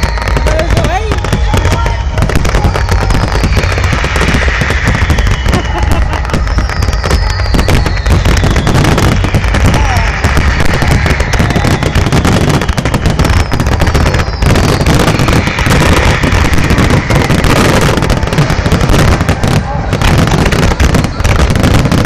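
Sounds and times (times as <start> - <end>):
firework bangs and crackling: 0.0 - 22.0
firework whistles falling in pitch: 0.0 - 22.0.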